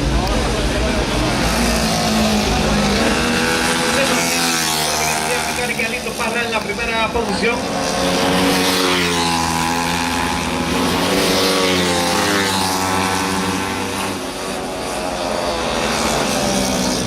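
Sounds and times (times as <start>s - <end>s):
racing motorcycle engines revving: 0.0s - 17.0s.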